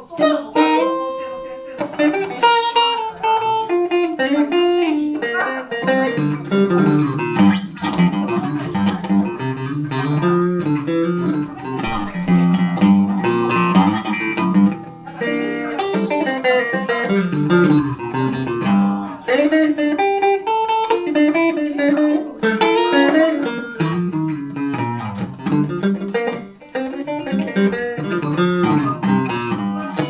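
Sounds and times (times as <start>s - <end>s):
electric guitar melody: 0.0s - 30.0s.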